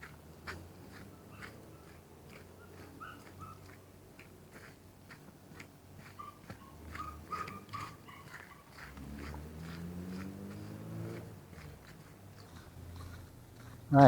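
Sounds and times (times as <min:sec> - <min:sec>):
footsteps on forest trail: 0:00.0 - 0:14.0.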